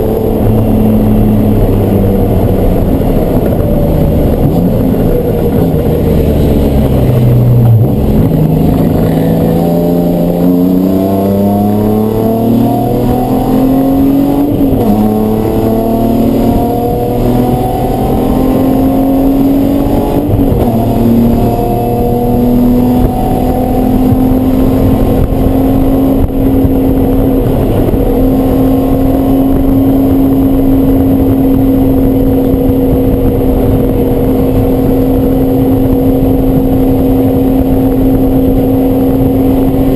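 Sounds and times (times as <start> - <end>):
race car engine pulling hard: 0.0 - 39.9.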